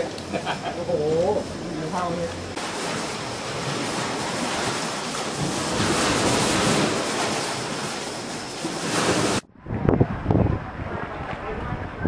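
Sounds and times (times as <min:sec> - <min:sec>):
storm wind buffeting microphone: 0:01.0 - 0:12.0.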